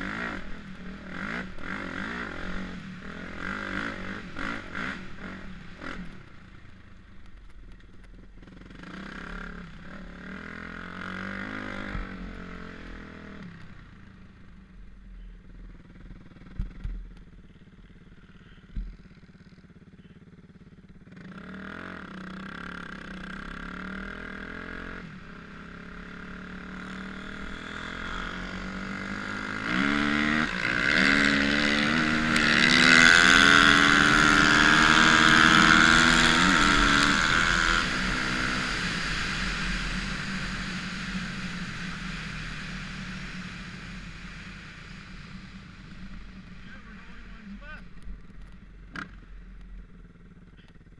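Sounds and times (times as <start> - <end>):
dirt bike engines revving: 0.0 - 6.6, 15.6 - 50.9.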